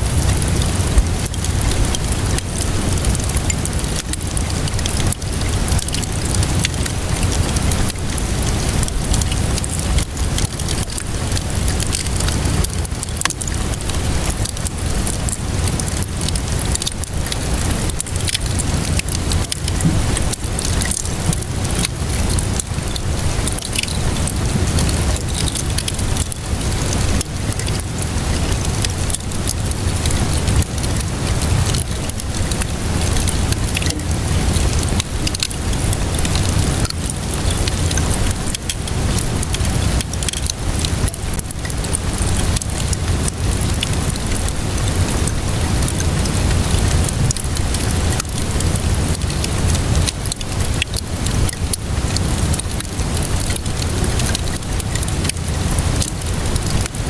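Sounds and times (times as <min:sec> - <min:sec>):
fire crackling: 0:00.0 - 0:57.0
steady rainfall: 0:00.0 - 0:57.0.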